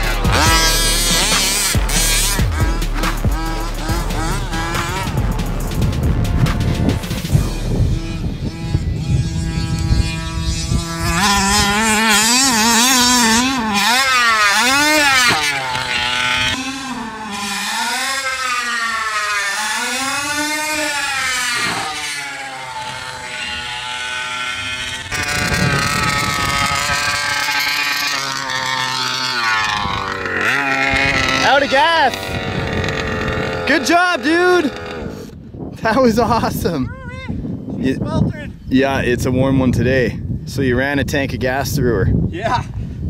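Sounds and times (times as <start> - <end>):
two-stroke engine revving: 0.0 - 35.4.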